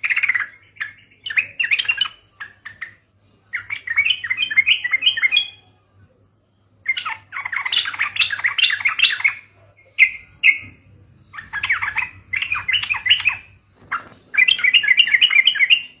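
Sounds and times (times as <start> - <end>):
bird chattering song: 0.0 - 16.0.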